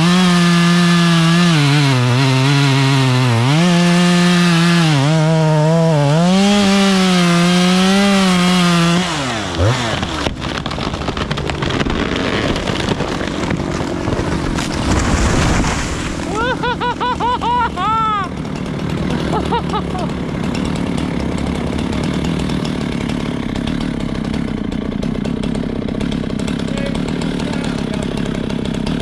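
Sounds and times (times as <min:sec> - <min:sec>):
wood cracking and snapping: 0:00.0 - 0:16.9, 0:18.2 - 0:29.0
chainsaw cutting at high revs: 0:00.0 - 0:29.0.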